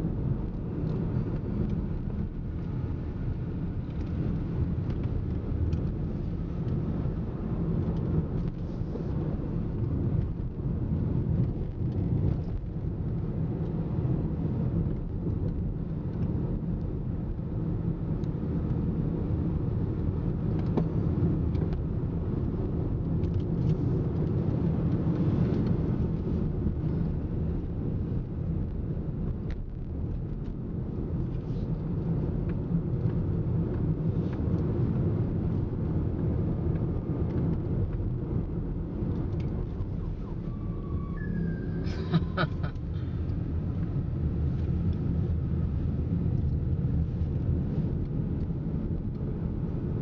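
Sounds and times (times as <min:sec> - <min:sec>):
car tyre and engine rumble: 0:00.0 - 0:50.0.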